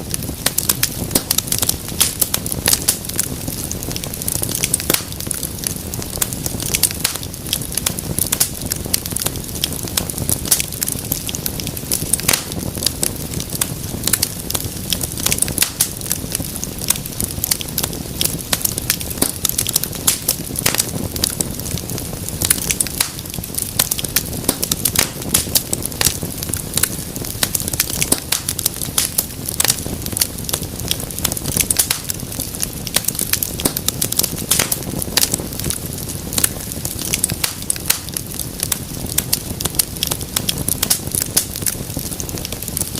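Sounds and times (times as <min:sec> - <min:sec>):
fire crackling and popping: 0:00.0 - 0:42.9
low rumble of burning: 0:00.0 - 0:42.9.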